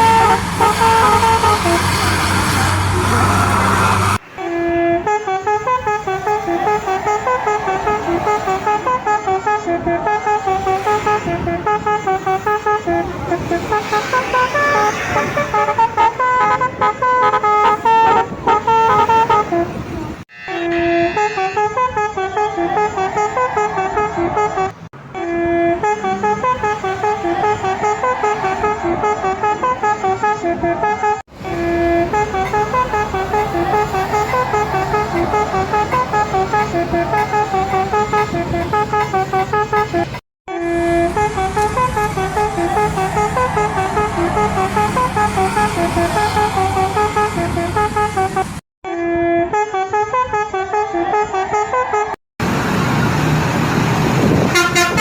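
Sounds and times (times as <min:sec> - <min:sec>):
bus engine running: 0:00.0 - 0:20.2, 0:21.6 - 0:48.6, 0:51.4 - 0:55.0
musical bus horns honking: 0:00.0 - 0:52.2, 0:54.1 - 0:55.0.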